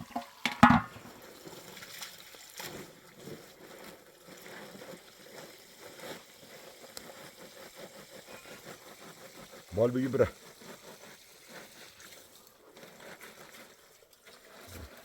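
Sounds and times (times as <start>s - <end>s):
water trickling and sloshing: 0.0s - 15.0s.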